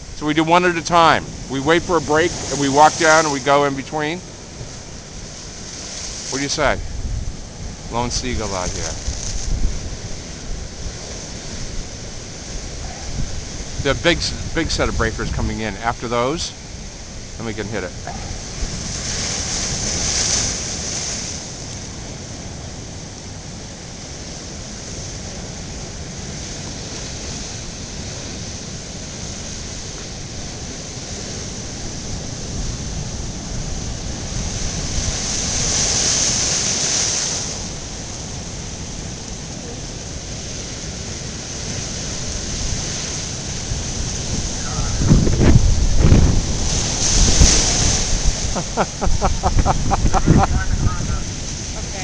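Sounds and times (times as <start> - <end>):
storm surf breaking: 0.0 - 52.0
wind rumbling on microphone: 0.0 - 52.0.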